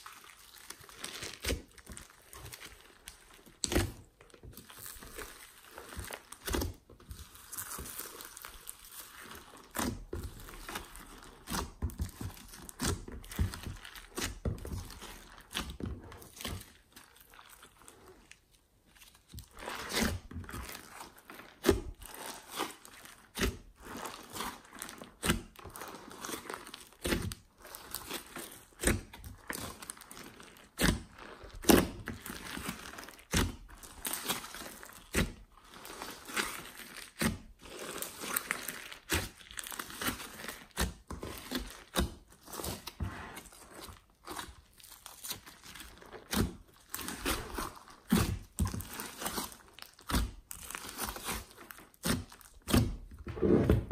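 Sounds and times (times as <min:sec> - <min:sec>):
slime squelching and crackling: 0:00.0 - 0:53.9.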